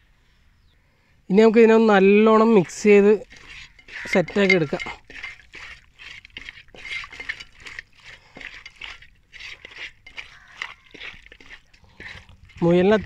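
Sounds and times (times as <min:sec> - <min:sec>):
wet squelching of meat: 0:02.6 - 0:13.0.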